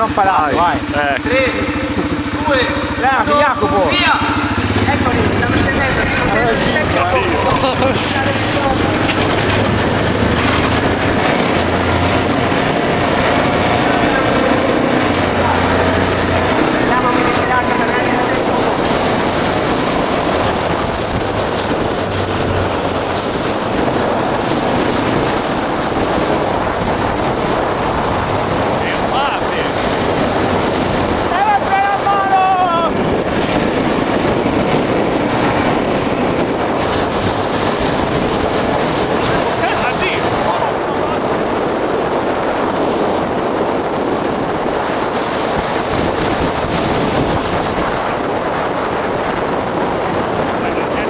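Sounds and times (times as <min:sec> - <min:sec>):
wheels rolling fast on asphalt: 0:00.0 - 0:51.0
wind buffeting microphone: 0:00.0 - 0:51.0.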